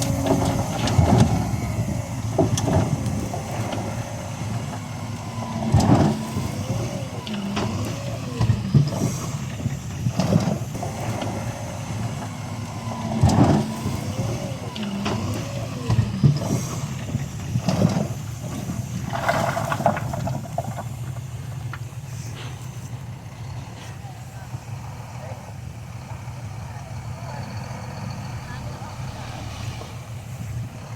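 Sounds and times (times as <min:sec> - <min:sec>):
diesel machinery running: 0:00.0 - 0:30.9.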